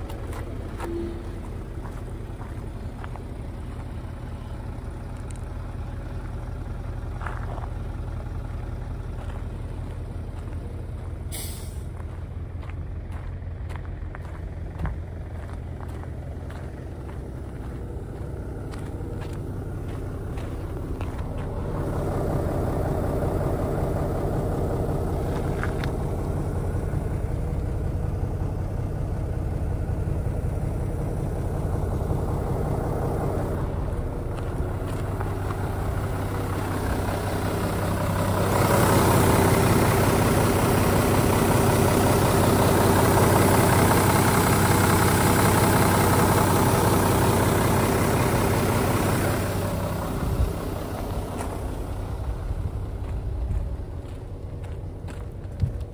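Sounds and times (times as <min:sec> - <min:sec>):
diesel bus engine idling: 0:00.0 - 0:55.9.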